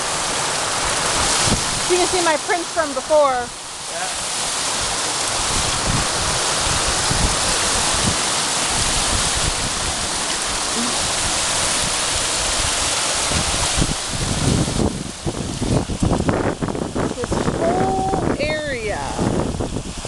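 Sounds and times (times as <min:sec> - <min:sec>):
water rushing through gully: 0:00.0 - 0:20.0.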